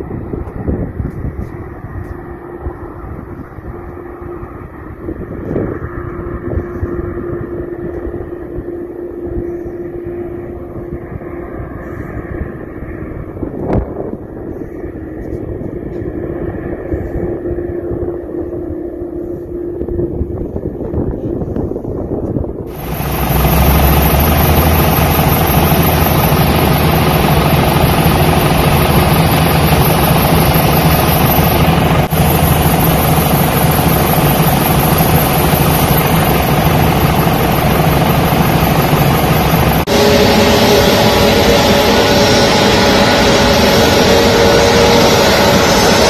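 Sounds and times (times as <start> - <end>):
aircraft engines humming: 0.0 - 46.0.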